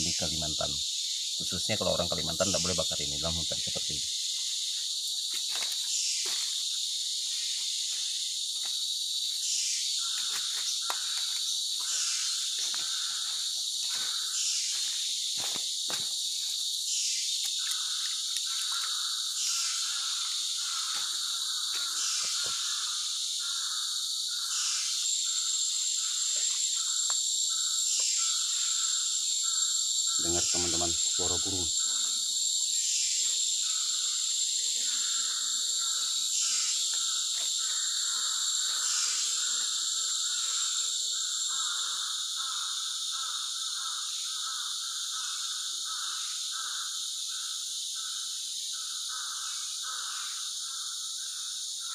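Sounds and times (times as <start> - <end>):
insect chorus buzzing: 0.0 - 51.9.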